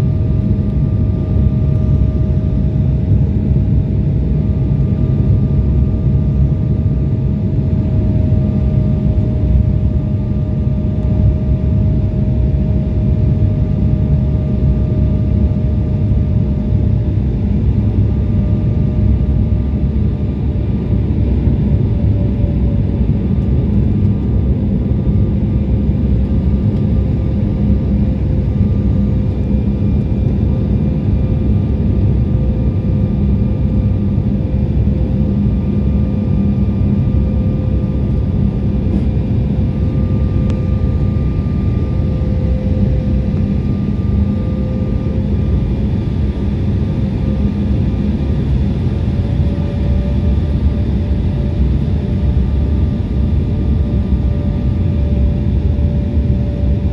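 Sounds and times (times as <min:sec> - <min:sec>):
jet engines droning: 0:00.0 - 0:56.9.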